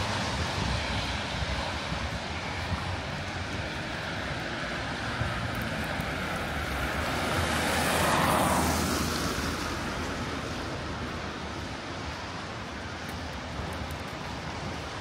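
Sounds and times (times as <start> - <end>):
vehicle passing: 0.0 - 12.4
distant city traffic hum: 0.0 - 15.0.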